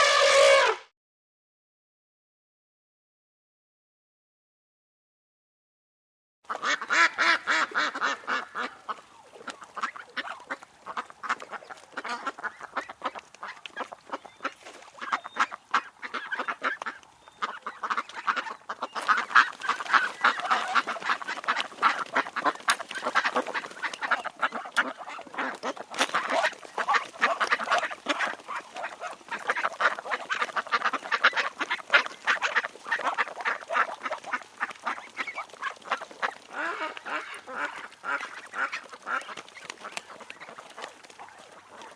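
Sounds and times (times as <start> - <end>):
flock of birds calling: 6.5 - 41.9.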